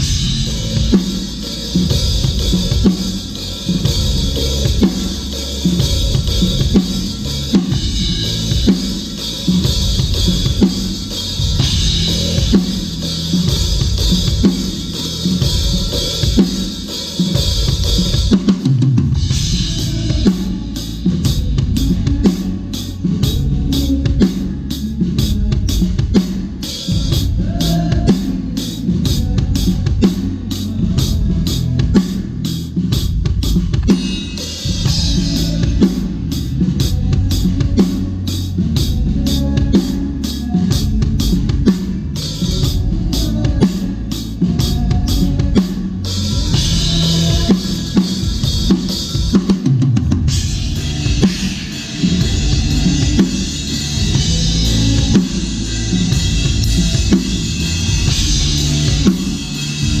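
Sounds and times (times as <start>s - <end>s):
bass drum and snare beat: 0.0s - 60.0s.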